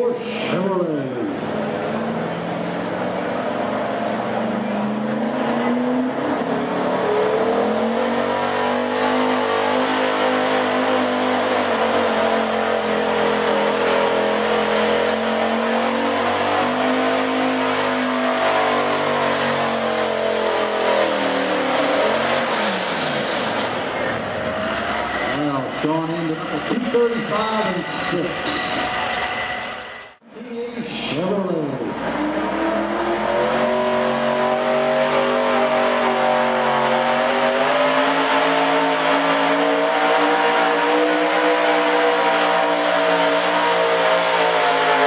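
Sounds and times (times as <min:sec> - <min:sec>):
truck engine at high revs: 0:00.0 - 0:30.3, 0:30.9 - 0:45.0.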